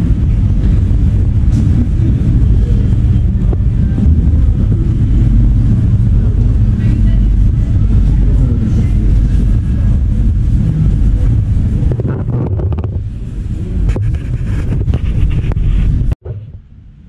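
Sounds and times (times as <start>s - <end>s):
low rumbling microphone noise: 0.0s - 17.0s.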